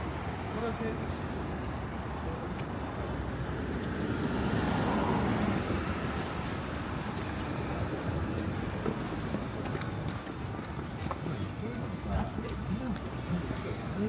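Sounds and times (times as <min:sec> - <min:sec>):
steady street hum: 0:00.0 - 0:14.0.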